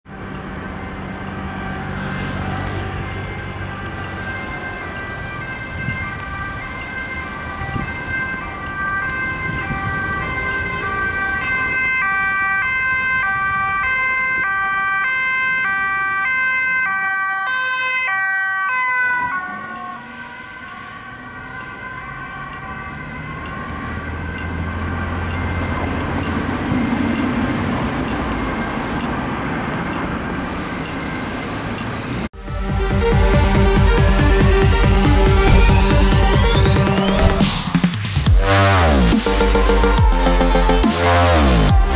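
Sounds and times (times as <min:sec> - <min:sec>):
ambulance siren: 0:00.0 - 0:41.9
road traffic: 0:00.0 - 0:41.9.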